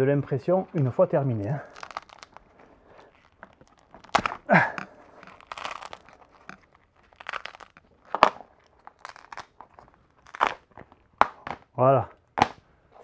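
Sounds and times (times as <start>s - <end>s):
plastic crackling and tearing: 0.2s - 12.6s.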